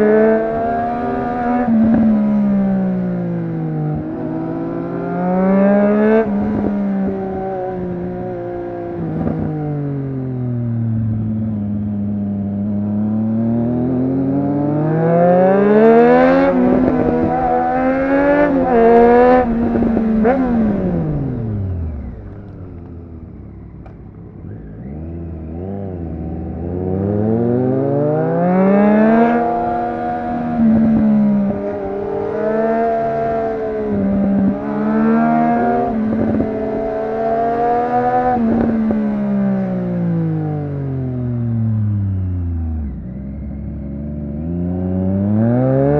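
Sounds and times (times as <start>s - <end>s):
motorcycle engine accelerating through gears: 0.0s - 45.9s.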